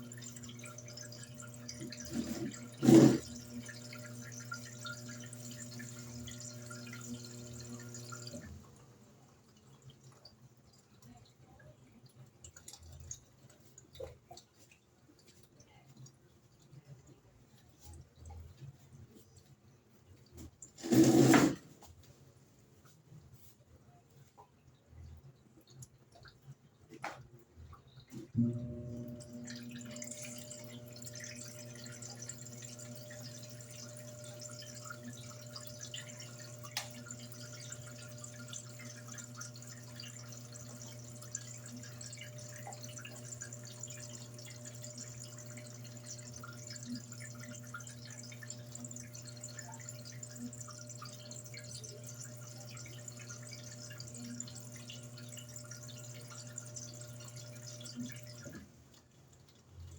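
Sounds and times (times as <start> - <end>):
water trickling and dripping: 0.0 - 20.8, 22.8 - 59.9
washing machine hum: 0.0 - 59.9.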